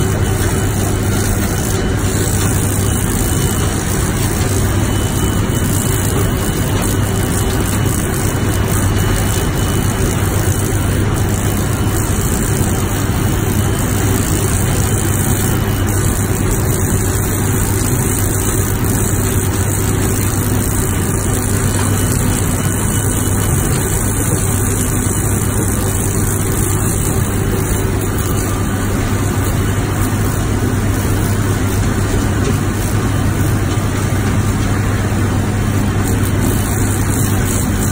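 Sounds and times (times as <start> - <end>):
industrial mill drone: 0.0 - 37.9.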